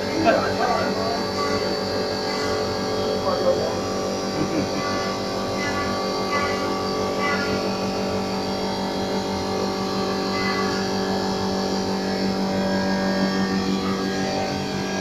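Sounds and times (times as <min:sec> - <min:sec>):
wood lathe machine hum: 0:00.0 - 0:15.0.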